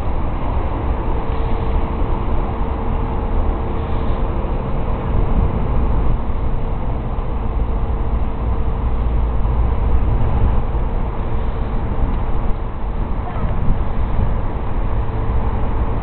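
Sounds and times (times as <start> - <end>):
low uneven outdoor rumble: 0.0 - 16.0.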